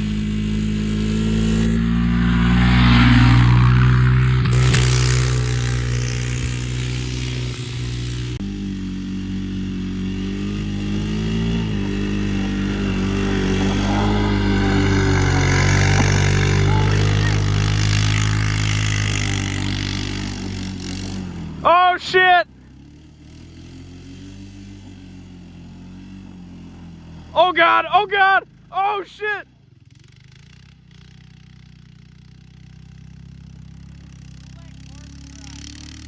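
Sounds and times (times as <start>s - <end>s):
quad engine running: 0.0s - 36.0s.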